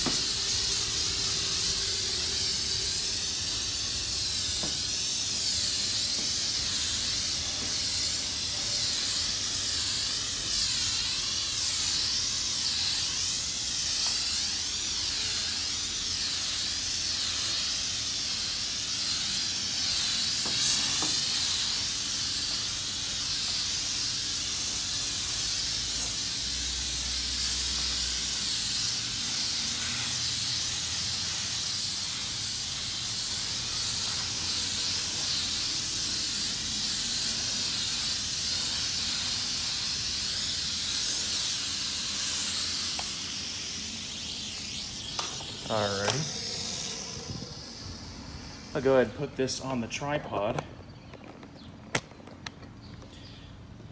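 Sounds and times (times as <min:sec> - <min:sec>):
spray wand hissing: 0:00.0 - 0:50.6.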